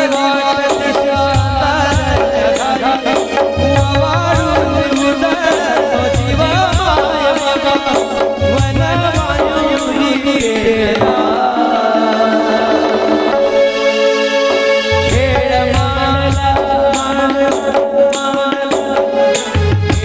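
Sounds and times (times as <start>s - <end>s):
hand drums beating: 0.0s - 13.7s, 14.5s - 20.0s
instrumental melody: 0.0s - 20.0s
steady held notes: 0.0s - 20.0s.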